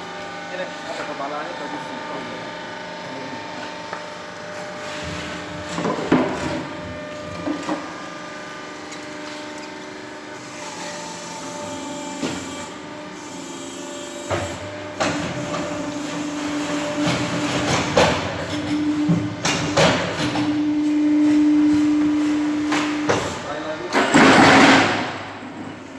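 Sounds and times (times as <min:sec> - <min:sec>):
motor and pump hum: 0:00.0 - 0:25.9.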